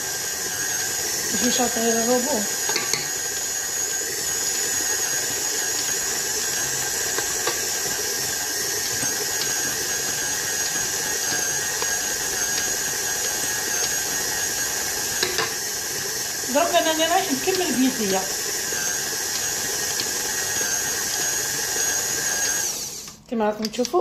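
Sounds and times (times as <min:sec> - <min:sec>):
stand mixer motor whine: 0:00.0 - 0:23.2.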